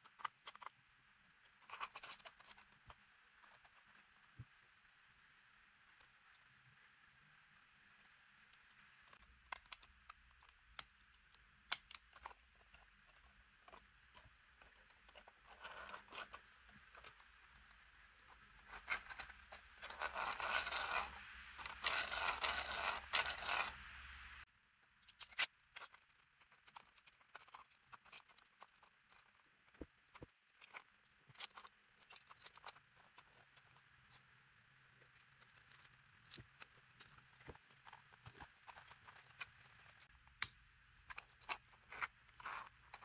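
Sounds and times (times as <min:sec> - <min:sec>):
plastic parts scraping and rubbing: 0:00.0 - 0:04.5, 0:08.9 - 0:23.8, 0:25.0 - 0:43.0.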